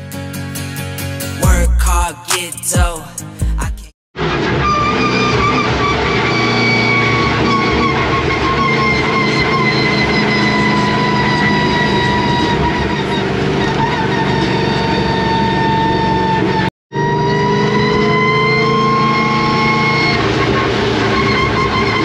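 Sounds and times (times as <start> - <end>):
car engine drone: 3.4 - 22.0
supercharger whine: 4.2 - 22.0.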